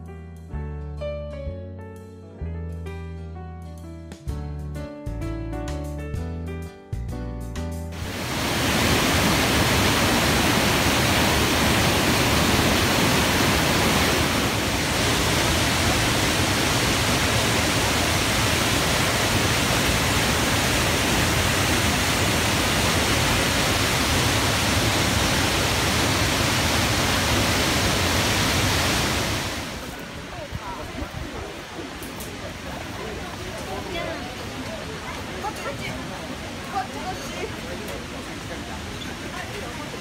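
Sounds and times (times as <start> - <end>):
waterfall rushing over rocks: 8.0 - 40.0.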